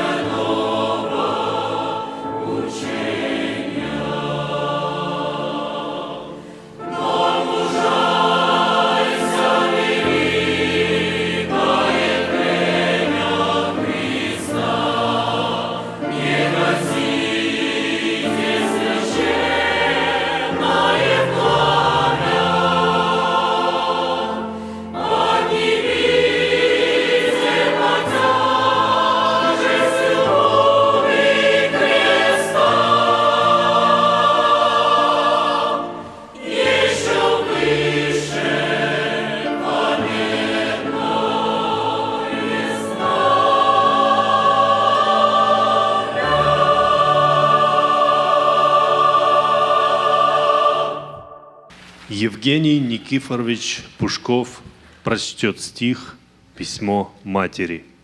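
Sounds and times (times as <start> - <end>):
choir singing a hymn: 0.0 - 54.2.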